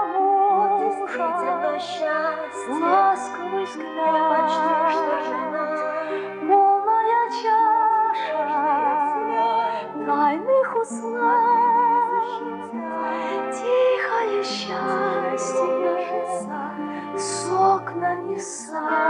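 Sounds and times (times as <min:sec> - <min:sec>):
instrumental accompaniment: 0:00.0 - 0:19.0
woman singing slow song: 0:00.0 - 0:19.0.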